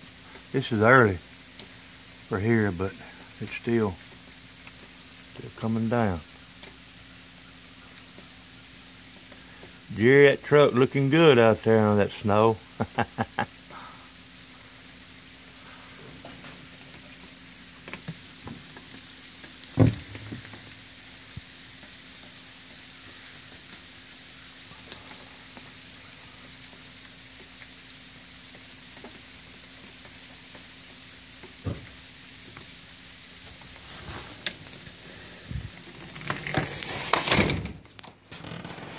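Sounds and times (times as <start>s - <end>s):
wet snow falling on leaves: 0.0s - 38.9s.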